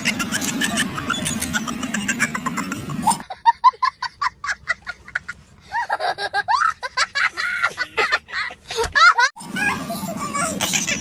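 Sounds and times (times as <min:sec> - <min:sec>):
noisy mix with low hum: 0:00.0 - 0:11.0.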